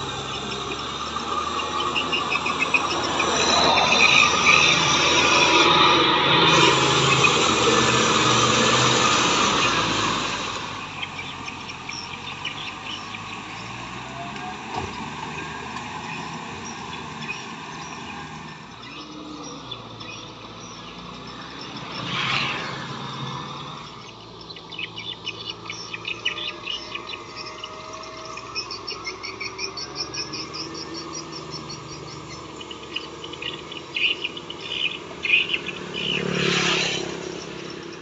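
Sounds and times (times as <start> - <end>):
insects pulsed chirping: 0.0 - 14.0, 15.1 - 38.0
tractor diesel engine running: 0.0 - 38.0.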